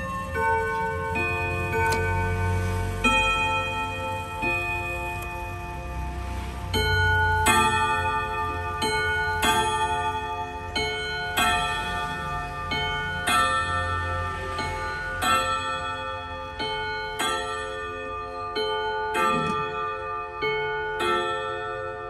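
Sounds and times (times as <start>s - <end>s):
wall clock striking gong rods: 0.0s - 22.0s.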